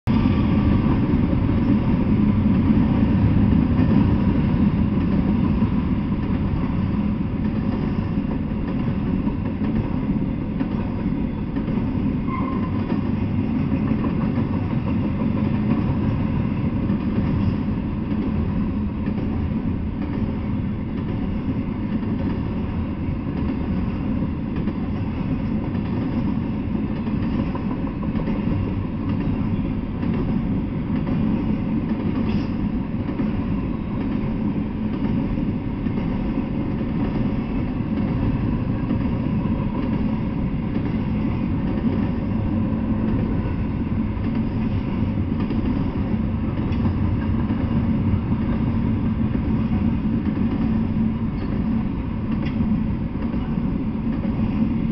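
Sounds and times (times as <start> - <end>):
freight train rolling past: 0.0 - 54.9.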